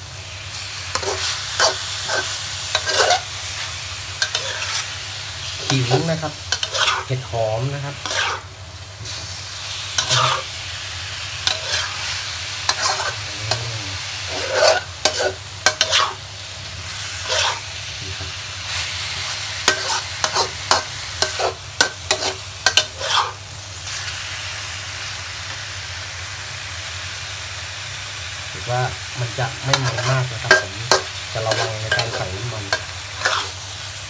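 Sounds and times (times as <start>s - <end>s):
food sizzling in hot oil: 0.0s - 34.0s
spatula scraping a wok: 0.5s - 24.3s, 28.9s - 34.0s.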